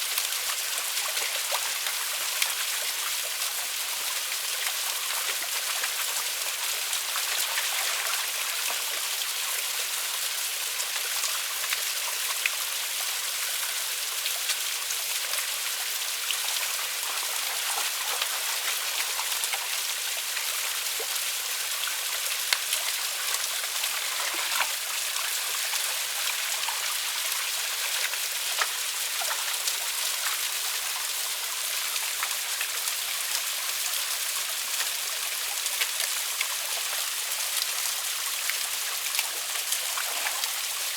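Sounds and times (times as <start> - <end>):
sharp splashes and drips: 0.0 - 40.9
water running over waterfall: 0.0 - 40.9.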